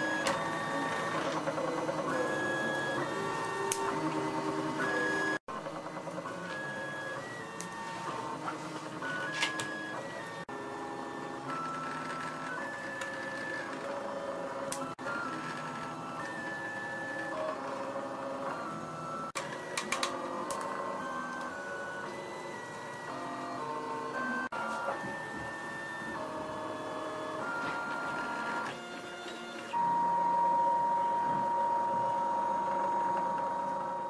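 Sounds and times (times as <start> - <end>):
stepper motors whining: 0.0 - 34.0.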